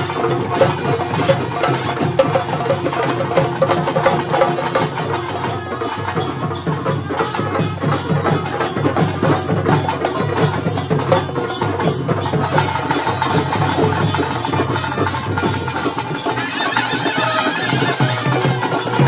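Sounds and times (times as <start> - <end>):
barrel drums playing fast rhythm: 0.0 - 19.0.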